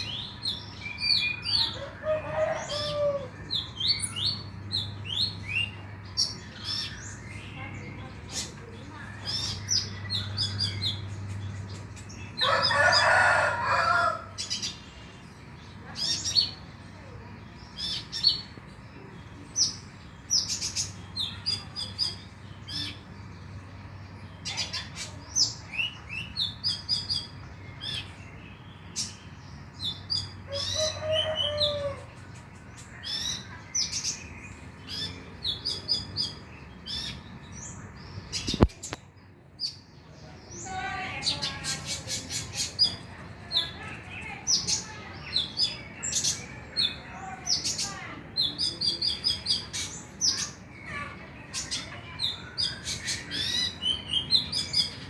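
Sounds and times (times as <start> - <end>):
bird chirping and twittering: 0.0 - 55.0.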